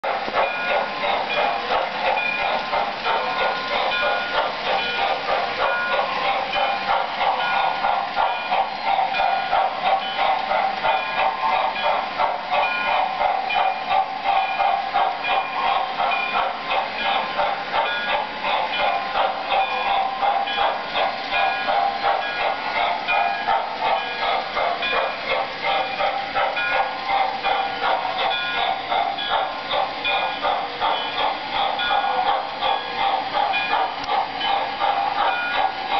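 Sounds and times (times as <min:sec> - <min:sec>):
electronic steam chuffing: 0:00.0 - 0:35.9
model train wheels clattering: 0:00.0 - 0:35.9.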